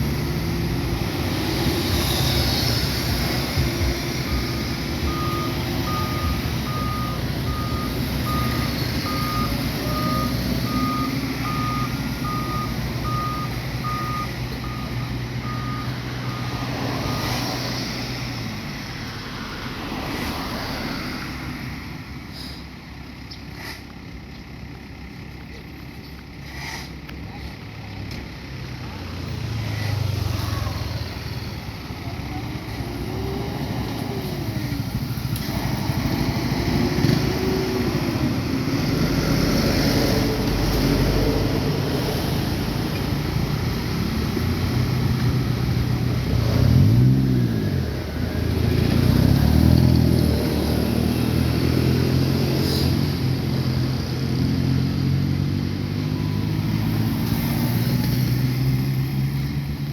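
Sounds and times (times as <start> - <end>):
vehicles driving past: 0.0 - 59.9.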